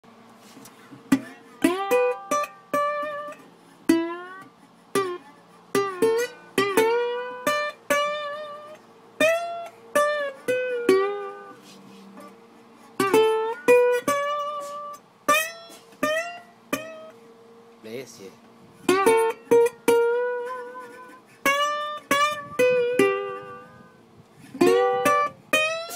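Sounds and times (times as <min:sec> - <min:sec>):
solo blues guitar: 0:00.4 - 0:17.8, 0:18.4 - 0:25.9.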